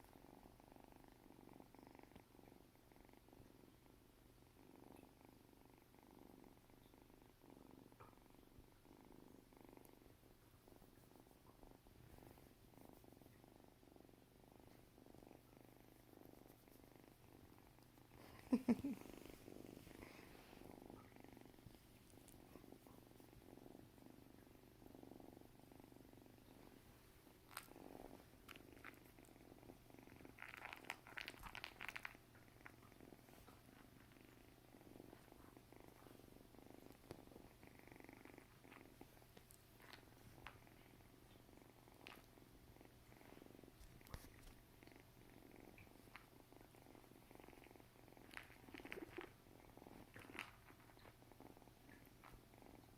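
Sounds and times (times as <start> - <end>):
kitten purring: 0.0 - 52.9.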